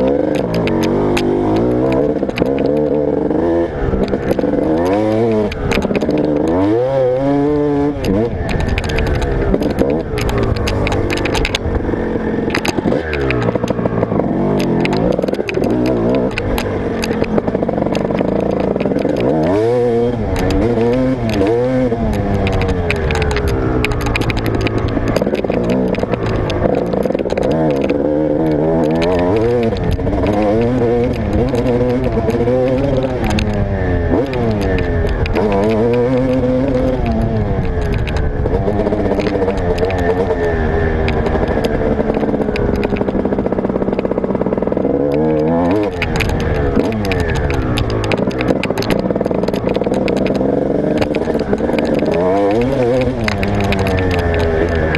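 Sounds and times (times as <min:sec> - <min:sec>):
dirt bike engine revving: 0:00.0 - 0:54.9
sharp clicks and knocks: 0:00.0 - 0:54.9.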